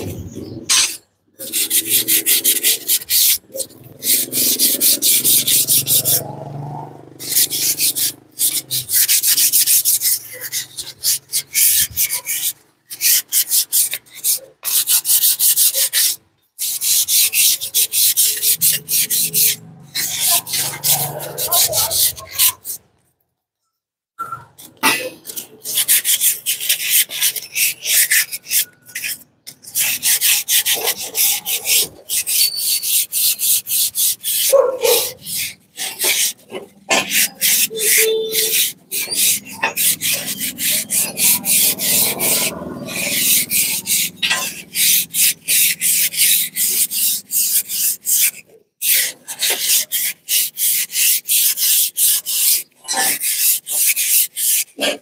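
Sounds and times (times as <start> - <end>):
scrubbing rusty coil spring: 0.2 - 22.8, 24.2 - 55.0.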